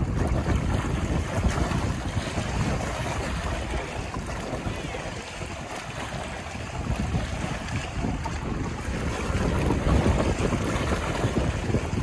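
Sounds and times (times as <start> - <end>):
waves splashing against rocks: 0.0 - 12.0
wind gusting over microphone: 0.0 - 12.0.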